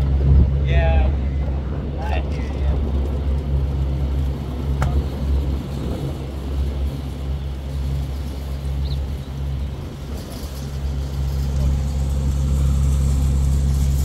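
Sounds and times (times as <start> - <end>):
vehicle engine idling: 0.9 - 14.0.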